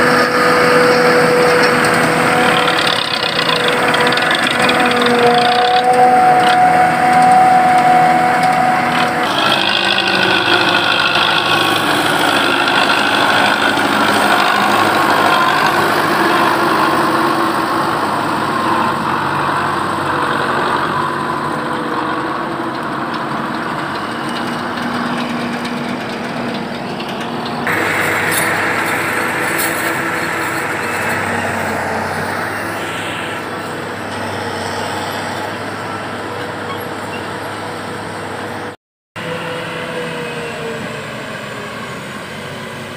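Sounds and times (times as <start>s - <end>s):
forage harvester running: 0.0s - 42.9s
steady machine whine: 0.0s - 42.9s
tractor engines working: 0.0s - 42.9s.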